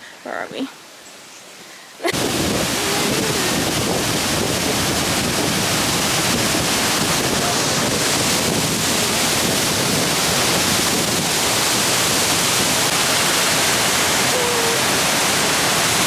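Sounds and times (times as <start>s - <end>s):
waterfall rushing: 2.0s - 16.0s.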